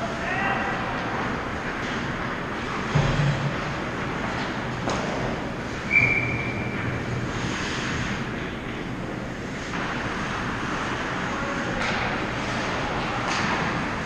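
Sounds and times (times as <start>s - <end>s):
ice rink background noise: 0.0s - 14.0s.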